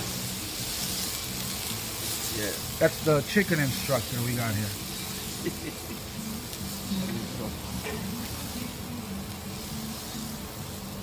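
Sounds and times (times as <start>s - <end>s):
chicken sizzling over charcoal: 0.0s - 11.0s.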